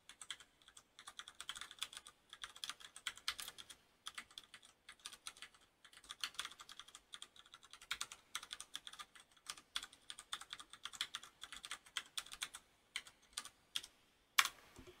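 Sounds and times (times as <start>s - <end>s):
typing on mechanical keyboard: 0.0s - 14.6s.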